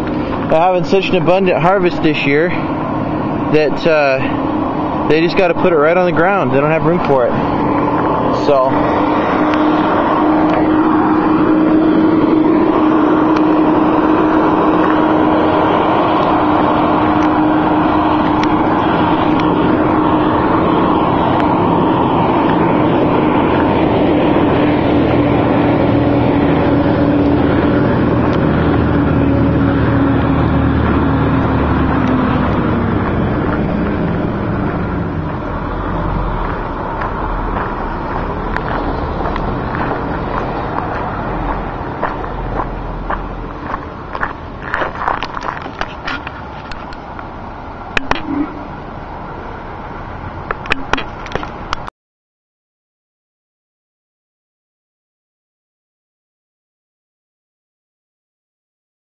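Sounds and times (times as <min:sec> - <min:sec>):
engine humming: 0:00.0 - 0:51.9.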